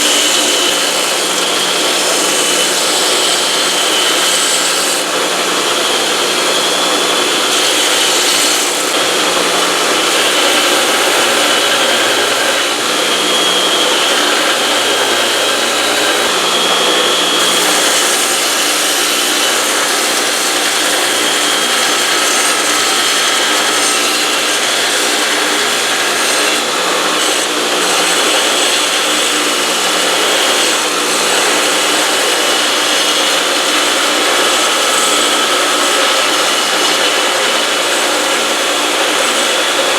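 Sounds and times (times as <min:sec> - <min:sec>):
belt grinder grinding steel: 0:00.0 - 0:39.9.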